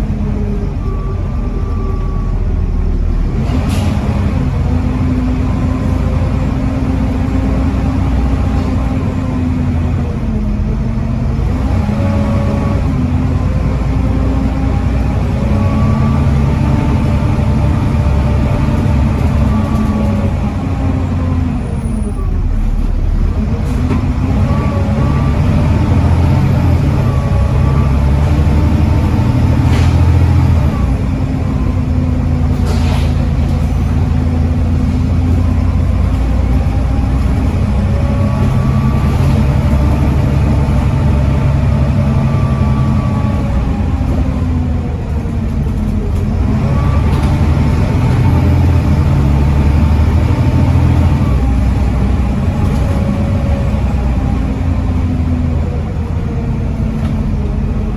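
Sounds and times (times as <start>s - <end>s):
bus diesel engine under load: 0.0s - 57.9s.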